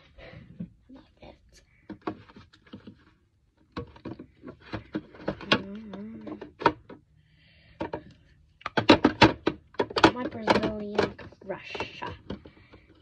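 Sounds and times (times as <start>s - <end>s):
plastic bottles clicking and knocking: 1.7s - 13.0s.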